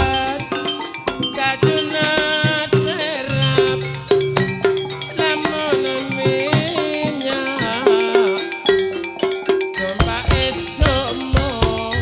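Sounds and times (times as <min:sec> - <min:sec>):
drum strokes: 0:00.0 - 0:12.0
metallophone notes ringing: 0:00.0 - 0:12.0
wavering melody line: 0:00.0 - 0:12.0.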